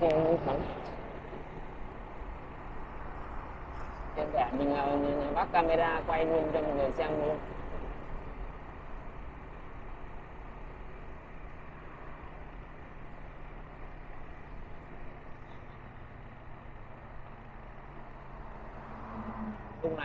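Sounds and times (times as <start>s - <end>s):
road and wind noise: 0.0s - 20.0s
vehicle engine hum: 0.0s - 20.0s.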